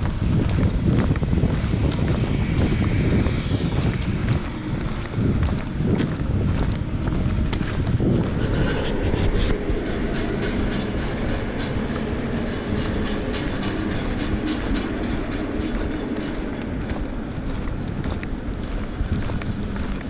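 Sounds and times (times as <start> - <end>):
faint hum: 0.0 - 20.0
vehicle engine rumbling: 0.0 - 20.0.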